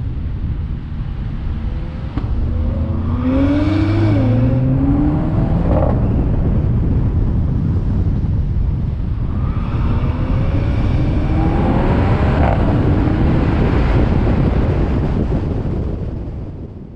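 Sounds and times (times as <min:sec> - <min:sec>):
wind buffeting microphone: 0:00.0 - 0:16.9
car engine accelerating: 0:01.1 - 0:08.1, 0:09.0 - 0:15.8.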